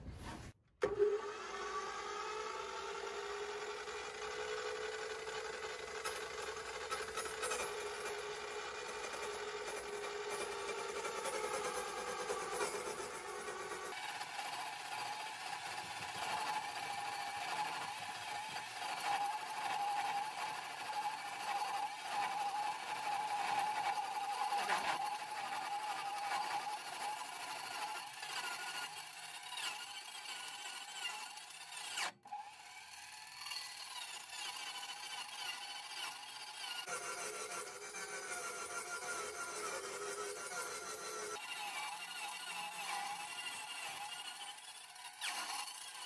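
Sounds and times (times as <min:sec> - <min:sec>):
saw motor whine: 0:00.8 - 0:46.0
saw blade grinding metal: 0:01.4 - 0:46.0.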